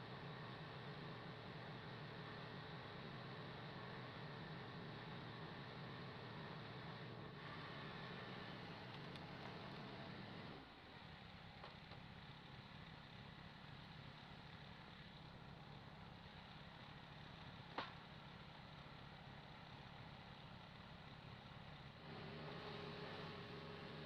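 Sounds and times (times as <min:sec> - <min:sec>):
faint engine running: 0:00.0 - 0:24.0.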